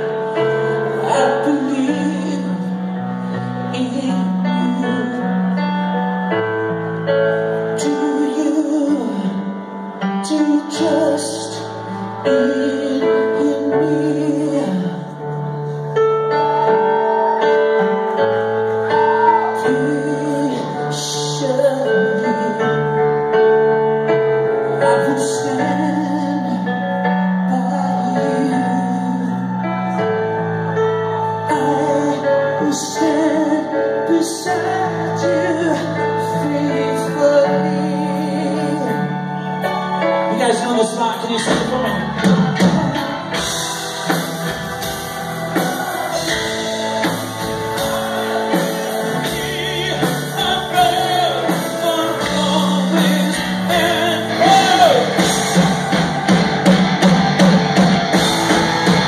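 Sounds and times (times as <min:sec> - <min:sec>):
held keyboard chords: 0:00.0 - 0:59.0
live rock band playing: 0:00.0 - 0:59.0
man singing lead melody: 0:00.0 - 0:59.0.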